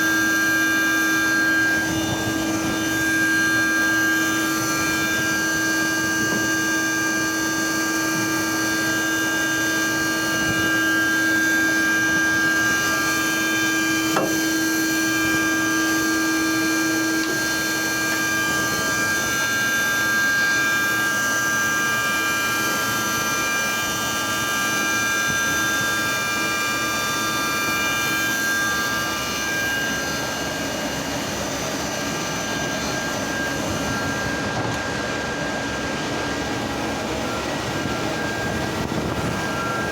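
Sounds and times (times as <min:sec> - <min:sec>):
grinding machine whine: 0:00.0 - 0:39.9.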